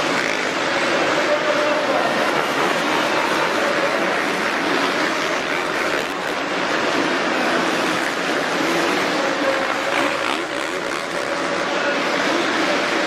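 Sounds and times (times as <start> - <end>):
arena crowd din: 0.0 - 13.0
dirt bike engines revving: 0.0 - 13.0.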